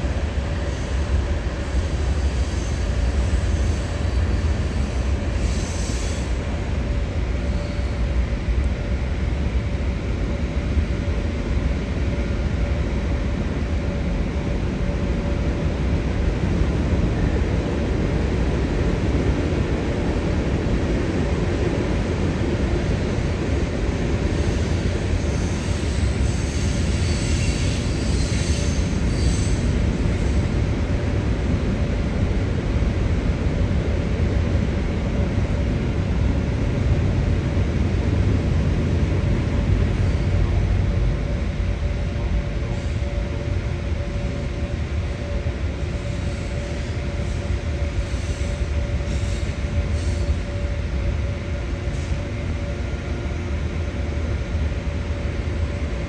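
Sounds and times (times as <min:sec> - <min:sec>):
constant engine whine: 0:00.0 - 0:56.0.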